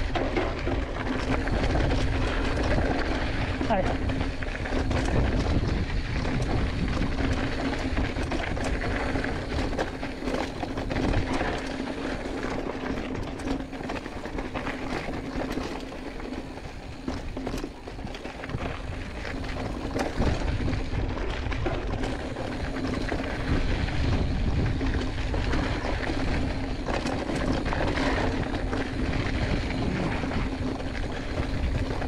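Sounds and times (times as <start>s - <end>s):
bike clicking and rattling: 0.0s - 32.0s
wind rumbling on microphone: 0.0s - 32.0s.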